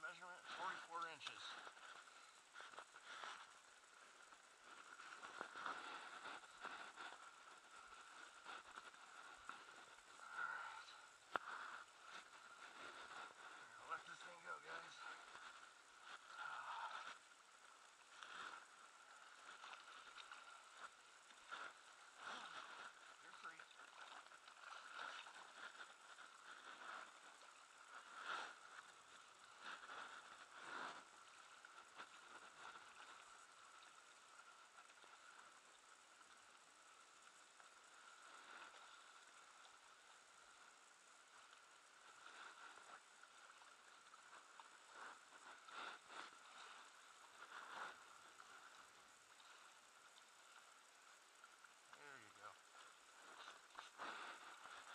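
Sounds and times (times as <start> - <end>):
faint steady hiss: 0.0 - 54.9.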